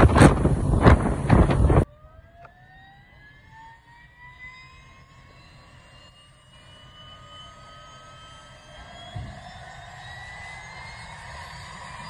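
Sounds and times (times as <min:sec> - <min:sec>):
helicopter rotor buffeting overhead: 0:00.0 - 0:12.0
turbine whine rising in pitch: 0:00.0 - 0:12.0.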